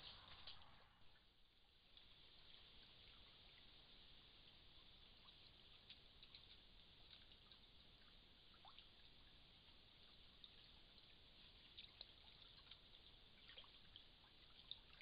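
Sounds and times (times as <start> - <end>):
faint ticks: 0.0 - 0.8, 1.9 - 3.7, 4.8 - 15.0
faint microphone hiss: 0.0 - 15.0.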